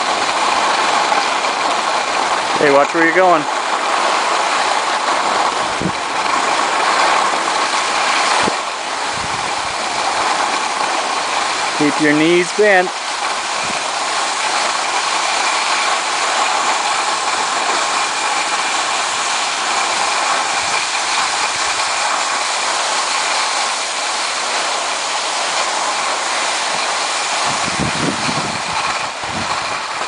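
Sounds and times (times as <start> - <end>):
skis sliding over snow: 0.0 - 30.0.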